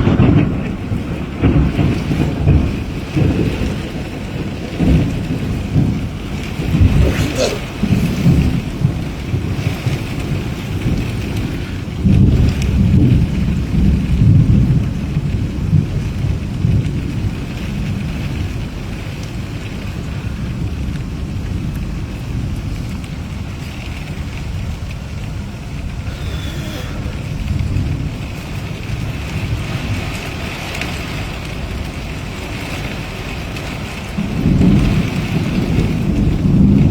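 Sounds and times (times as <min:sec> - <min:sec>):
heavy rain pouring: 0:00.0 - 0:36.9
thunder rumbling: 0:00.0 - 0:36.9.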